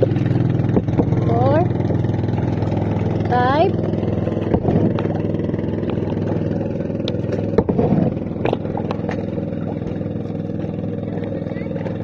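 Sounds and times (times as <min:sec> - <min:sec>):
motorboat engine drone: 0:00.0 - 0:12.0.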